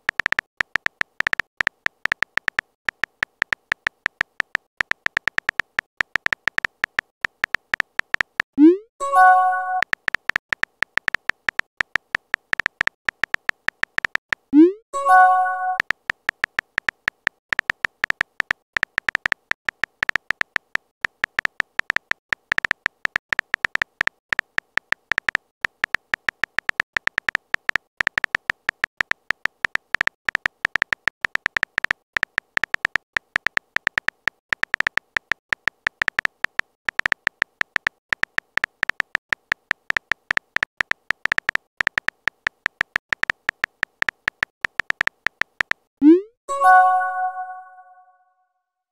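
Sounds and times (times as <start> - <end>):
phone keyboard typing ticks: 0.0 - 48.2.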